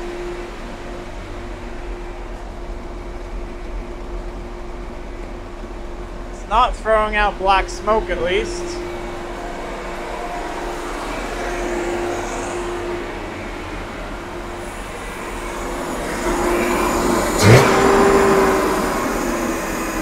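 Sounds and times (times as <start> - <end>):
car engine racing idle: 0.0 - 20.0.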